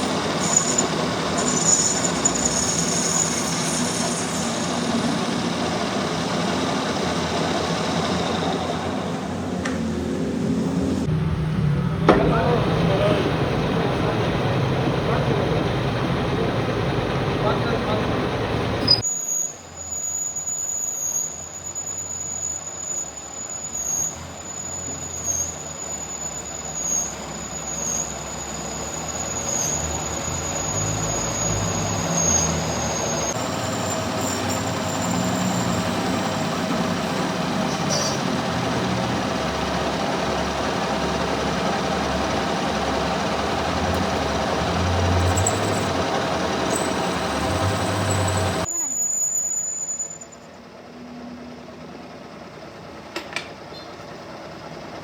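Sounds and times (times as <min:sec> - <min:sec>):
metalworking machine whining: 0:00.0 - 0:54.7.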